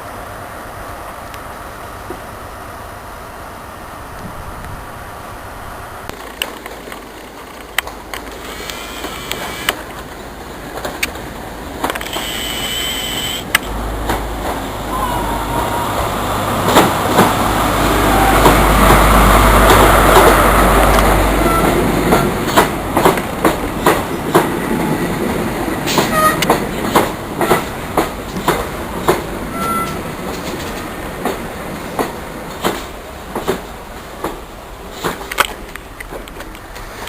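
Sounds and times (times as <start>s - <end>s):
train passing rumble: 0.0s - 37.0s.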